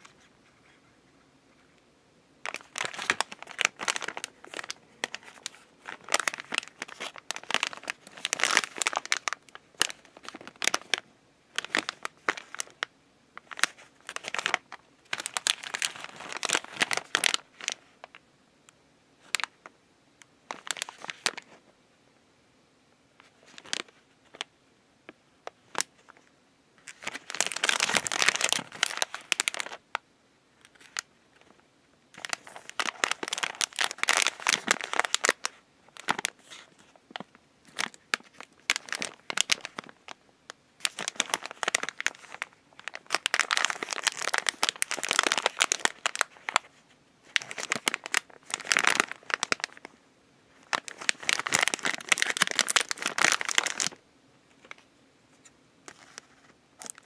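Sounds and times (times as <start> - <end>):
plastic wrappers crinkling: 2.4 - 18.2, 19.2 - 19.6, 20.4 - 21.6, 23.2 - 24.5, 25.4 - 26.2, 26.8 - 30.0, 30.6 - 40.2, 40.8 - 49.9, 50.5 - 54.0, 55.8 - 57.0.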